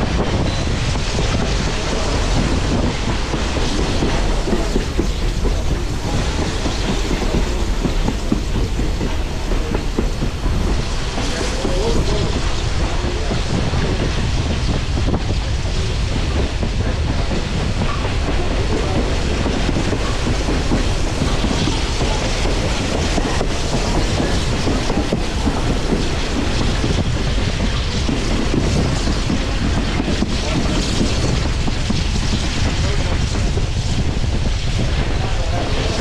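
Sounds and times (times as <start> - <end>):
train rumbling along track: 0.0 - 36.0.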